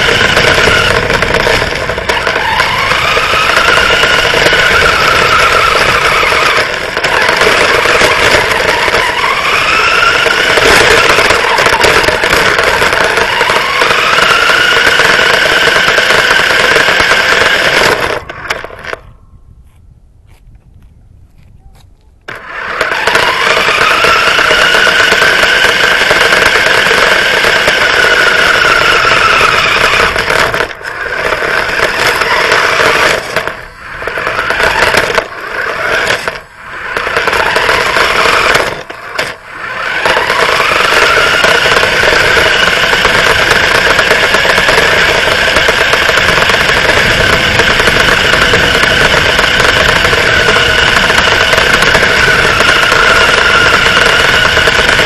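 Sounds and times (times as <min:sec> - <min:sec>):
toy car motor whine: 0:00.0 - 0:19.0, 0:22.3 - 0:55.0.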